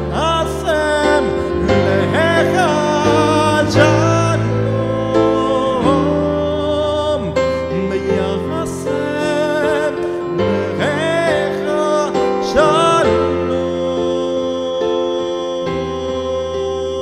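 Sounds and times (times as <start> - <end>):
keyboard chords: 0.0 - 17.0
man singing with vibrato: 0.0 - 17.0.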